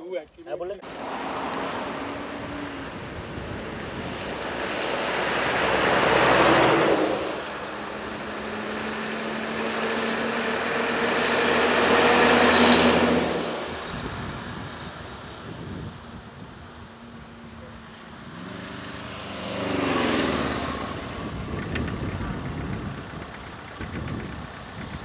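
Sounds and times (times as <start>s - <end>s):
vehicles driving past: 0.7s - 25.0s.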